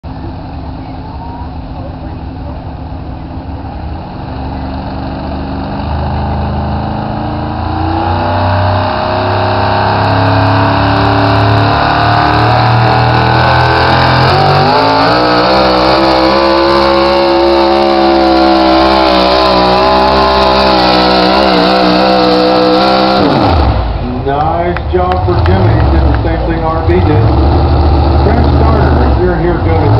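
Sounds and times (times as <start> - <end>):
truck engine at full throttle: 0.0 - 29.9.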